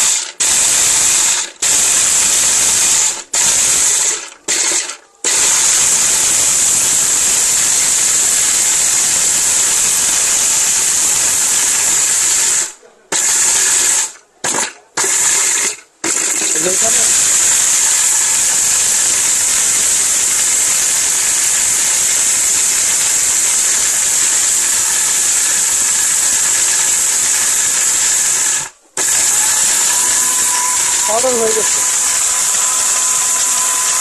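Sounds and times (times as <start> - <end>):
blender motor running: 0.0 - 34.0.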